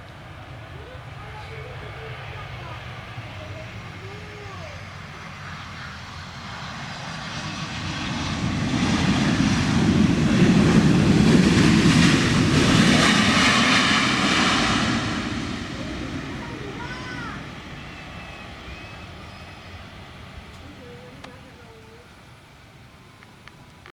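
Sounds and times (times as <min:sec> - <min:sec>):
jet engines passing: 0:00.0 - 0:23.9.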